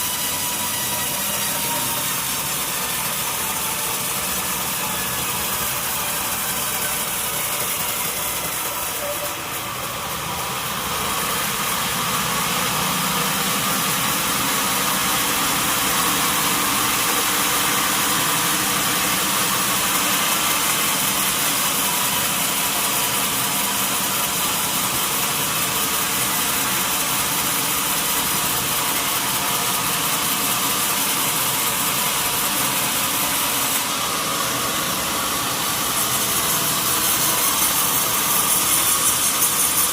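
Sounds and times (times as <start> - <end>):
sawmill machinery sawing log: 0.0 - 39.9.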